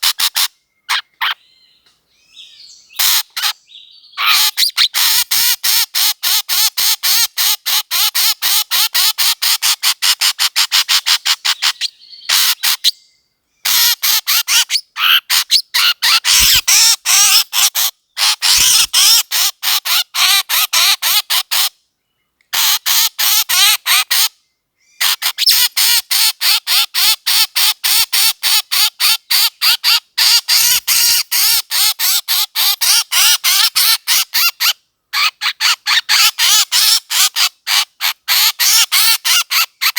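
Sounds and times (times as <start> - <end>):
recorded bird calls: 0.0 - 39.9.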